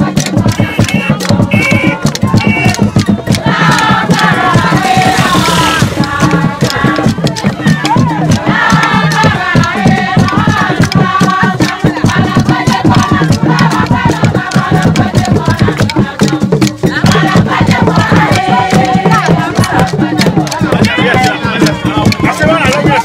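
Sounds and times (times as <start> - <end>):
fast rattles and percussion: 0.0 - 23.0
group of voices singing: 0.0 - 23.0.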